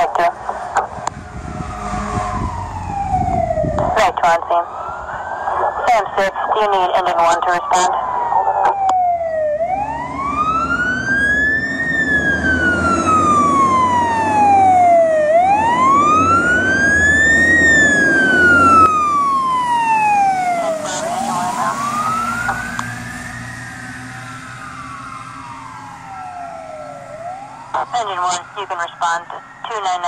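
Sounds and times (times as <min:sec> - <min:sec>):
fire engine siren wailing: 0:00.0 - 0:30.0
truck engine rumble: 0:00.1 - 0:30.0.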